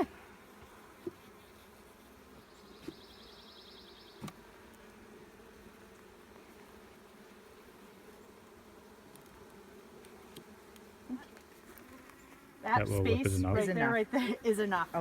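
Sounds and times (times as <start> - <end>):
honeybees buzzing: 0.2 - 15.0.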